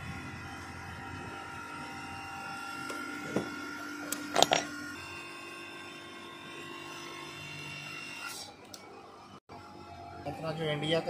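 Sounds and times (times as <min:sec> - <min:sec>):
hydraulic press humming: 0:00.0 - 0:11.0.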